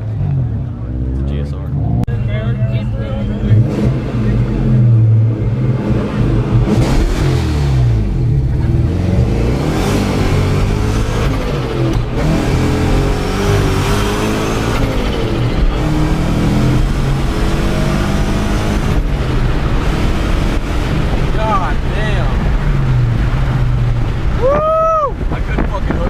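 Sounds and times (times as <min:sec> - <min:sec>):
car engine revving hard: 0:00.4 - 0:24.4.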